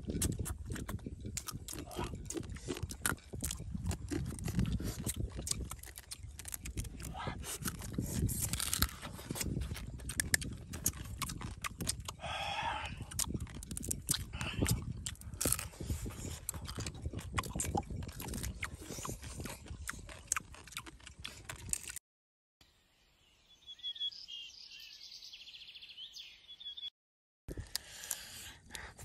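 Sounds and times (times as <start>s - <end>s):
person chewing with mouth clicks: 0.0s - 22.0s, 27.5s - 29.0s.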